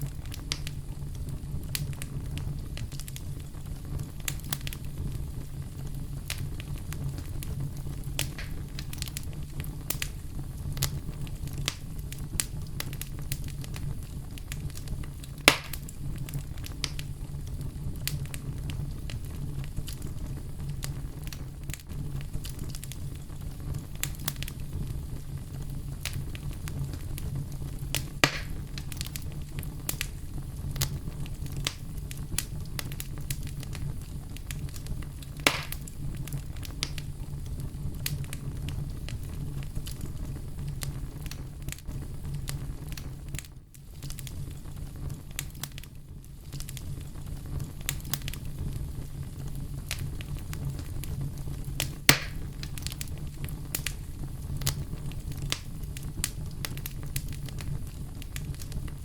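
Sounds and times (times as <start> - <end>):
campfire crackling: 0.0 - 59.0
loud fire pops: 0.0 - 59.0.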